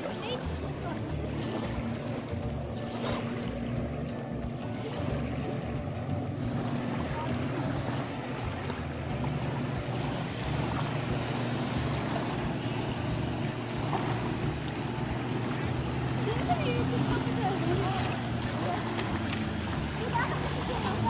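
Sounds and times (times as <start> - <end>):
motorboat engine droning: 0.0 - 21.0
small waves lapping: 0.0 - 21.0.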